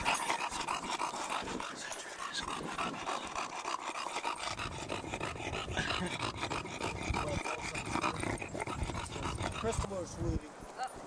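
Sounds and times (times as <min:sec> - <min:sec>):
dog panting: 0:00.0 - 0:10.4.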